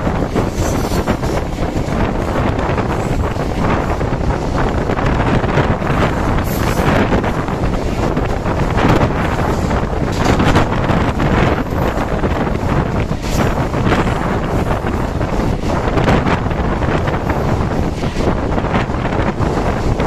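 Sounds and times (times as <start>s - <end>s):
train wheels rumbling on rails: 0.0s - 20.0s
wind buffeting microphone: 0.0s - 20.0s.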